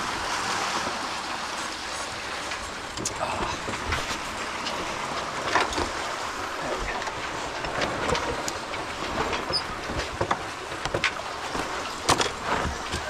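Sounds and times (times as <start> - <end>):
wind and water rushing: 0.0 - 13.0
boat rigging knocks and clicks: 1.7 - 13.0.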